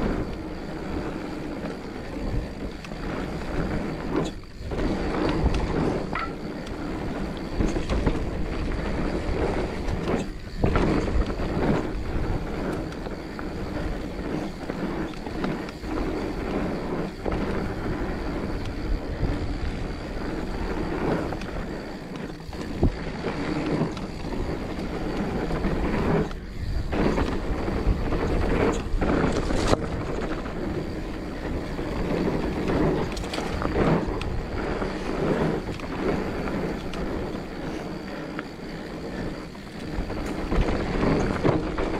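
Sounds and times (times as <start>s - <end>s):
bike rattling over bumps: 0.0s - 41.9s
bike tyres rolling over dirt: 0.0s - 41.9s
wind on microphone: 0.0s - 41.9s.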